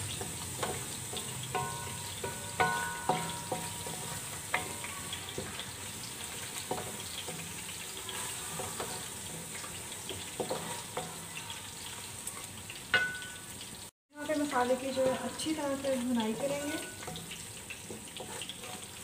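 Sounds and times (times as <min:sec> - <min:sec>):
paste sizzling in oil: 0:00.0 - 0:19.0
spatula scraping a metal pan: 0:00.1 - 0:13.2, 0:16.2 - 0:19.0.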